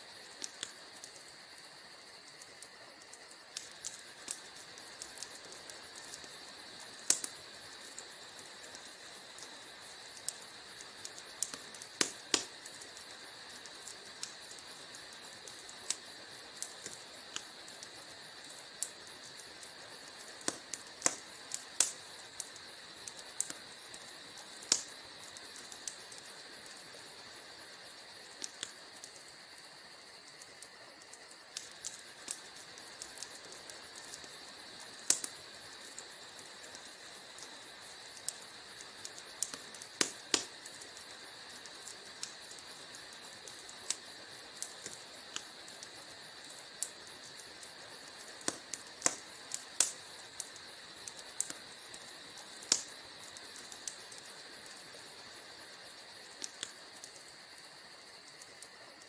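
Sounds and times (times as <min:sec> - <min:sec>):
steady hiss: 0:00.0 - 0:59.0
wood fire popping and snapping: 0:00.1 - 0:59.0.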